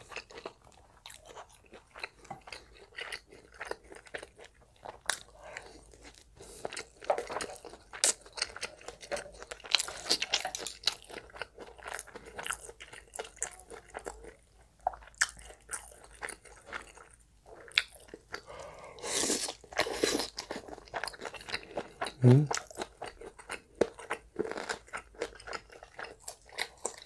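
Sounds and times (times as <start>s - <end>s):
close-miked chewing and biting: 0.0s - 27.0s.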